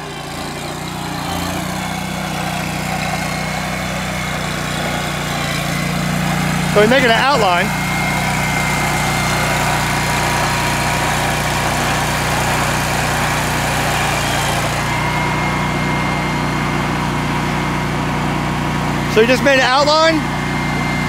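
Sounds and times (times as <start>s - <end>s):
mower engine running: 0.0s - 21.0s.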